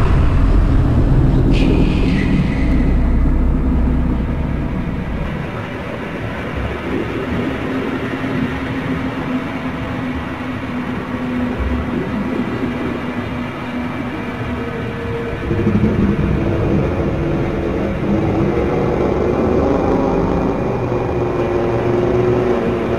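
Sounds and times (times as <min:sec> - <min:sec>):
deep rumbling drone: 0:00.0 - 0:22.9.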